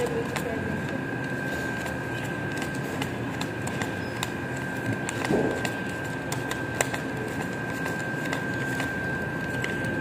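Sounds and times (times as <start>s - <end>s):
banknotes flicked by hand: 0.0s - 10.0s
steady room hum: 0.0s - 10.0s.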